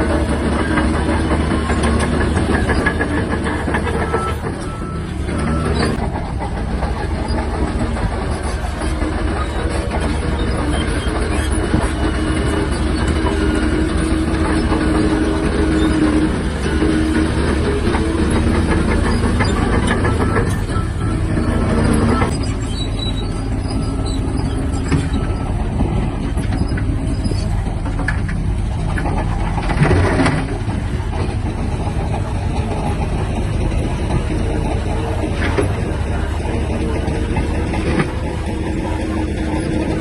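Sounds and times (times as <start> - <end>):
clatter of steel tracks: 0.0 - 40.0
diesel engine under load: 0.0 - 40.0.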